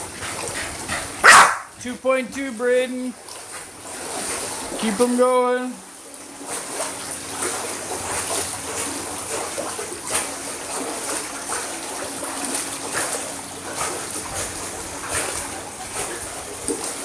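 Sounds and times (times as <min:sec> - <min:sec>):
dog splashing in water: 0:00.0 - 0:01.8, 0:03.0 - 0:05.2, 0:05.9 - 0:17.0.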